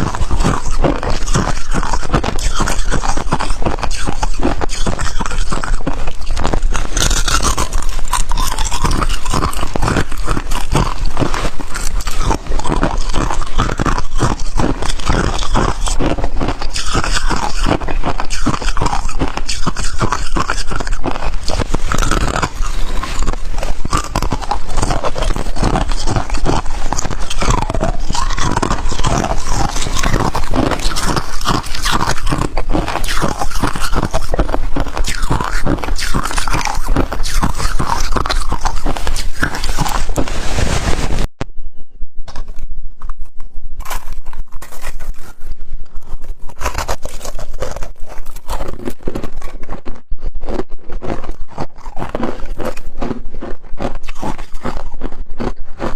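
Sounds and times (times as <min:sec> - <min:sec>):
chewing ice crunches: 0:00.0 - 0:40.4, 0:42.3 - 0:55.9.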